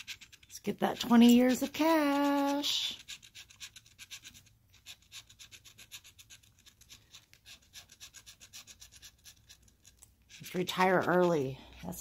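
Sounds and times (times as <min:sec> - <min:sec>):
pen scratching lottery ticket: 0:00.0 - 0:11.6.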